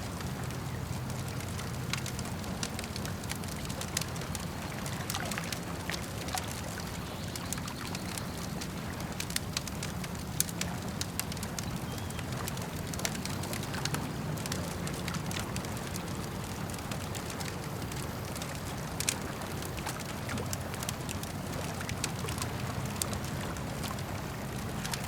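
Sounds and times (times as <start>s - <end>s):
campfire crackling and popping: 0.0s - 25.0s
lake water lapping: 0.0s - 25.0s.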